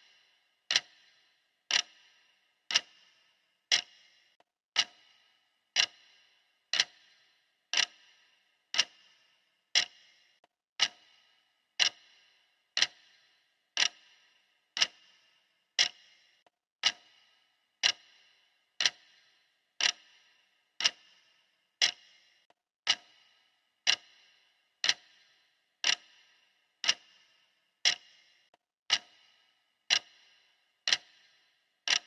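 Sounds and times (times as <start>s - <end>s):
clock ticking: 0.0s - 32.0s.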